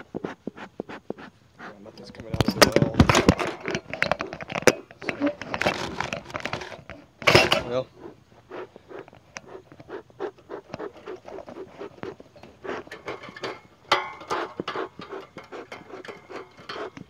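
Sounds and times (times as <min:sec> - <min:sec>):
wooden hive parts rubbing and knocking: 0:00.0 - 0:17.0.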